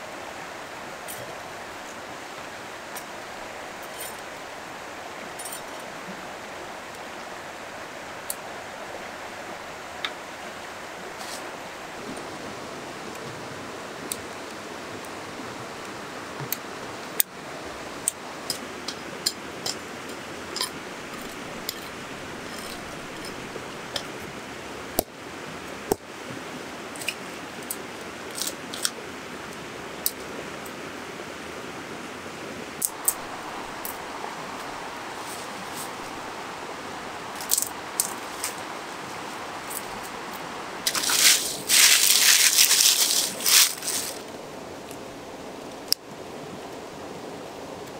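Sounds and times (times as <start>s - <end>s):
river rushing: 0.0s - 47.9s.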